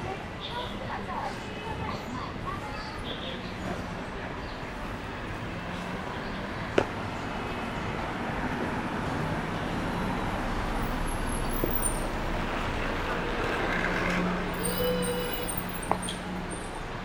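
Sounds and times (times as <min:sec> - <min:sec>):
passing vehicles: 0:01.3 - 0:17.0.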